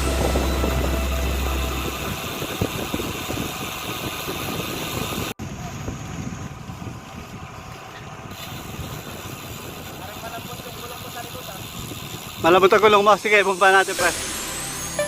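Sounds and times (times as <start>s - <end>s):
wind buffeting microphone: 0.0s - 12.6s
rush of cycling on road: 0.0s - 13.9s.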